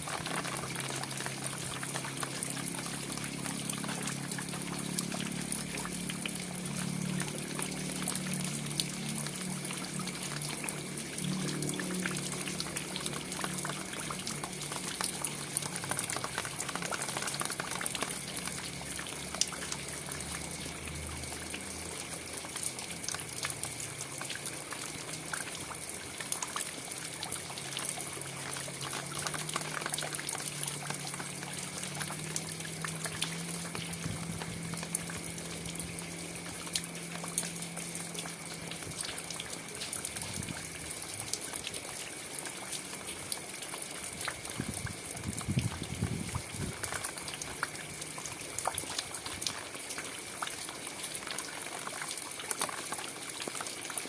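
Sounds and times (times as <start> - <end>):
close raindrops ticking: 0.0 - 54.0
steady rain falling: 0.0 - 54.0.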